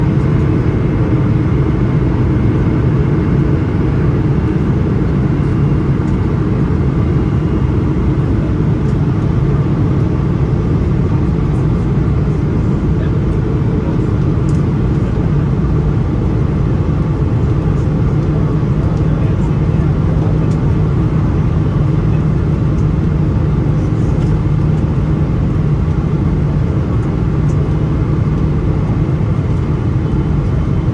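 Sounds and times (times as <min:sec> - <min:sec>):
airplane cabin roar: 0:00.0 - 0:30.9.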